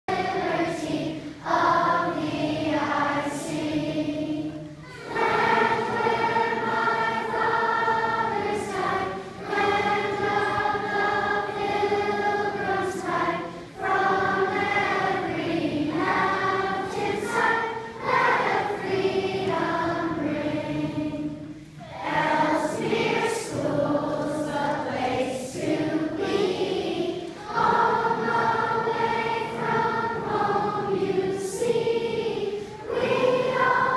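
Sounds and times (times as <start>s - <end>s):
children singing together: 0.1s - 33.9s.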